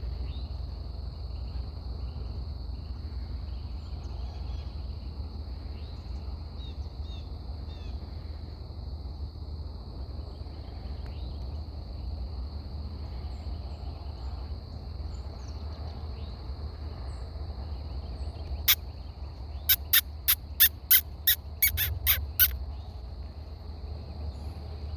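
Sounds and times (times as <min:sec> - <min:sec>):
insects droning: 0:00.0 - 0:24.9.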